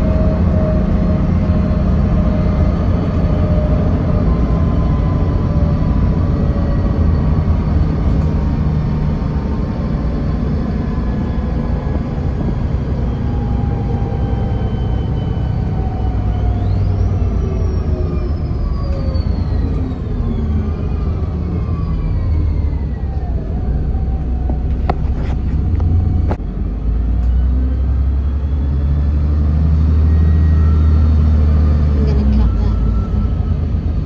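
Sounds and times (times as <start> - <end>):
bus engine and road rumble: 0.0 - 34.0
higher rising whine: 0.0 - 34.0.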